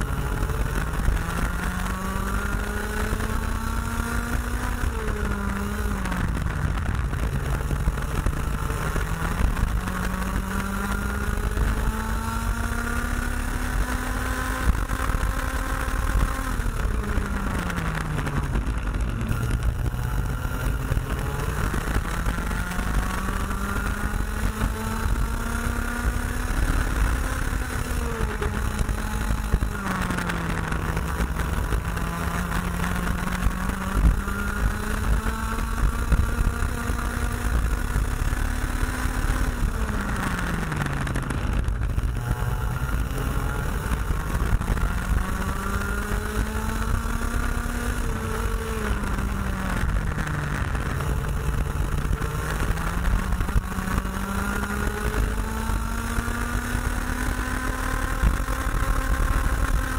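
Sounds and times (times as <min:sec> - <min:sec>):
kart engine racing: 0:00.0 - 0:59.9
wind rumble on microphone: 0:00.0 - 0:59.9.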